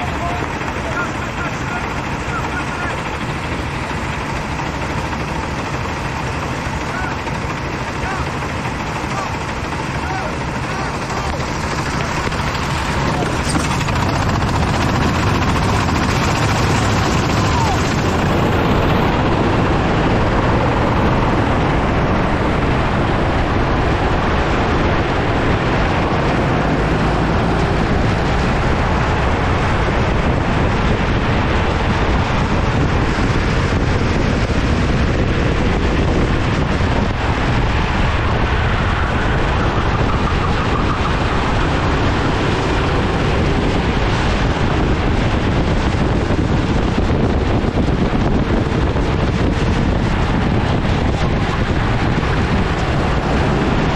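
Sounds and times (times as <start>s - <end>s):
go-kart engine drone: 0.0s - 53.9s
wind buffeting microphone: 0.0s - 53.9s.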